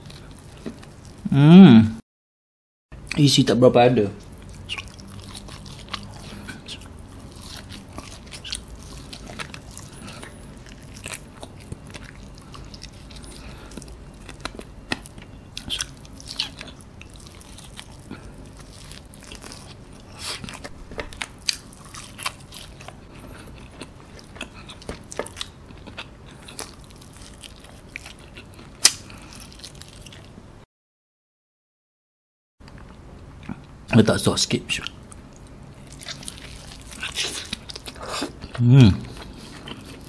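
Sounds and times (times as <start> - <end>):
biting and chewing food: 0.0 - 1.2, 4.2 - 30.4, 34.7 - 40.0.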